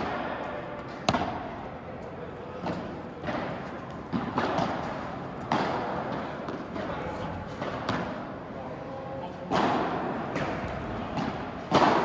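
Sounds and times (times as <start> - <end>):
rackets hitting ball: 0.0 - 1.6, 2.5 - 8.4, 9.4 - 12.0.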